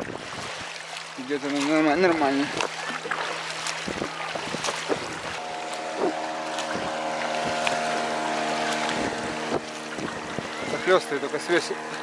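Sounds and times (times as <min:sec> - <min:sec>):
kayak paddle splashes: 0:00.0 - 0:12.0
motorboat engine running: 0:00.0 - 0:12.0.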